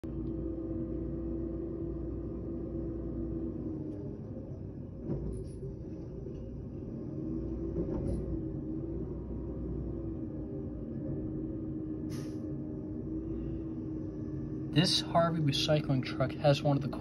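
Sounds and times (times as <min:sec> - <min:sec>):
truck engine and hydraulics: 0:00.0 - 0:17.0.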